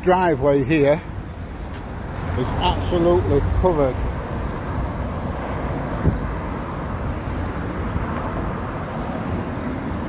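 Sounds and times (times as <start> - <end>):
vehicles driving past: 0.0 - 10.0.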